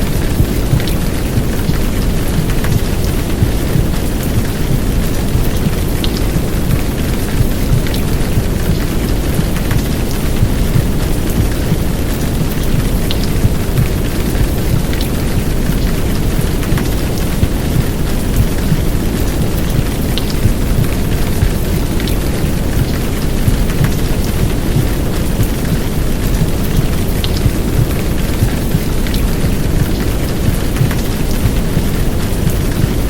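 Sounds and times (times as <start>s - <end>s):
faint drip ticks: 0.0s - 33.0s
heavy rain downpour: 0.0s - 33.0s
muffled womb rumble: 0.0s - 33.0s.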